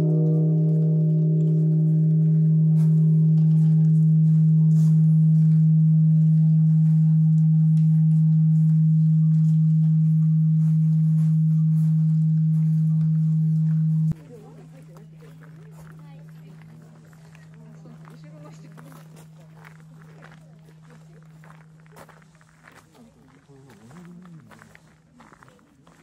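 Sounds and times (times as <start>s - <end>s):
large temple bell ringing: 0.0s - 25.0s.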